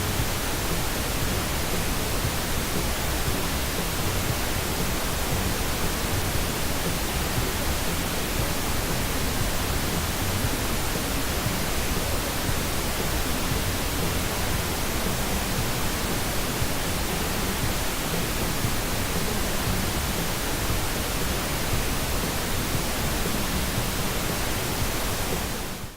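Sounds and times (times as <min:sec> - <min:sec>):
steady test noise hiss: 0:00.0 - 0:25.9.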